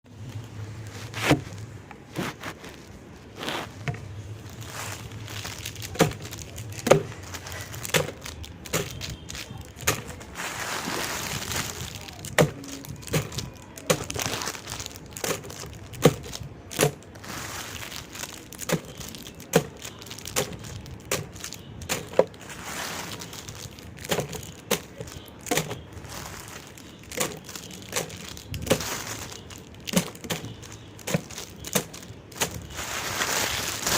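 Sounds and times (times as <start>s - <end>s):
wrapper crinkling: 0.1s - 33.9s.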